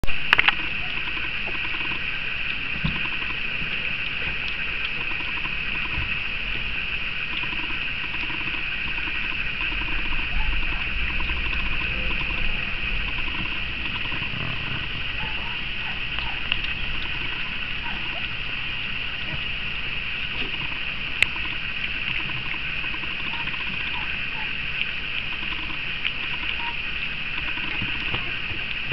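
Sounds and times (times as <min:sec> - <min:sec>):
steady high hiss: 0:00.0 - 0:28.9
puppies lapping food: 0:00.3 - 0:28.9.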